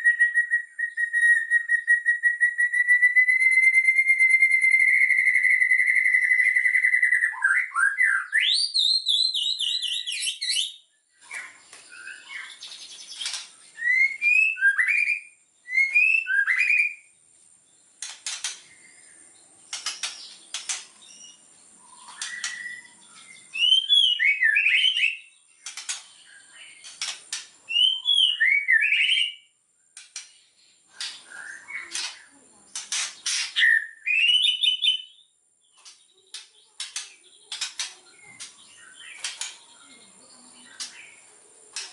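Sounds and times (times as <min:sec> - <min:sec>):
bird singing whistles and trills: 0:00.0 - 0:17.2, 0:18.0 - 0:29.6, 0:30.2 - 0:41.9.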